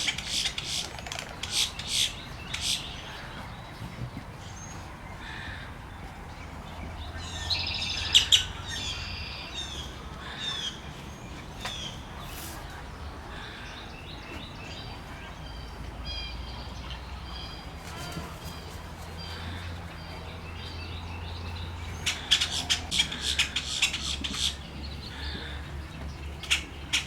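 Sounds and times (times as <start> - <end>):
birds chirping and calling: 0.0 - 27.0.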